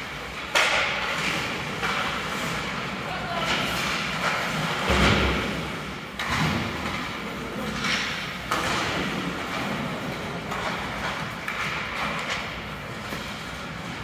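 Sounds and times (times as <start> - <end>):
rink and crowd noise: 0.0 - 14.0.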